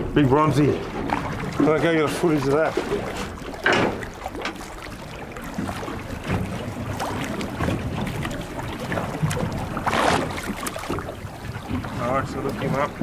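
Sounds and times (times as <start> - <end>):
shark churning water: 0.0 - 13.0
water splashing beside boat: 0.0 - 13.0.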